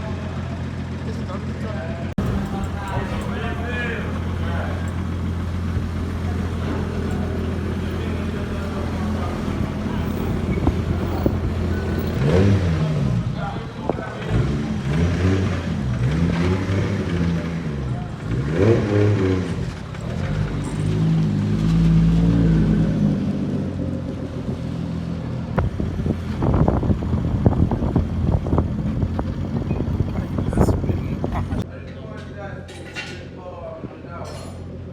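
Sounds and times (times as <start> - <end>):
car engine revving: 2.2 - 31.6.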